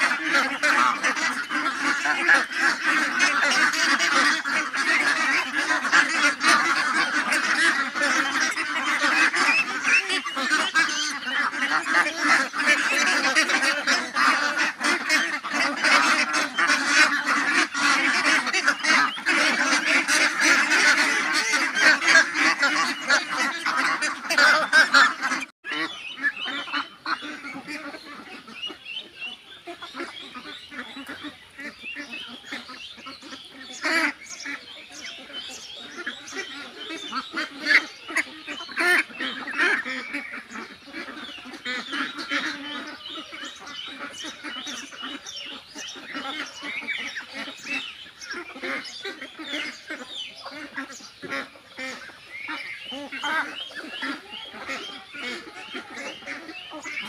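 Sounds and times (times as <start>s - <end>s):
ducks quacking: 0.0s - 57.0s.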